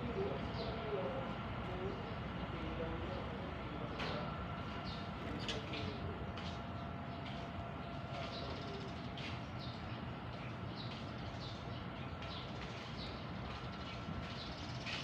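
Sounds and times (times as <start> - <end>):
small birds chirping: 1.8 - 15.0.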